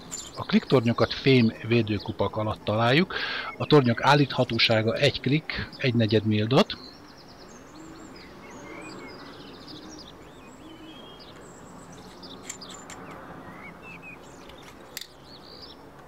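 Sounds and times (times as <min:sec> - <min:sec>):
small birds chirping: 0:00.0 - 0:16.0
steady outdoor noise: 0:00.0 - 0:16.0.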